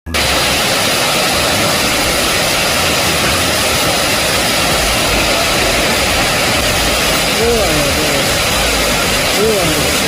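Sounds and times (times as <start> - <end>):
heavy hail on hard surfaces: 0.1 - 10.0.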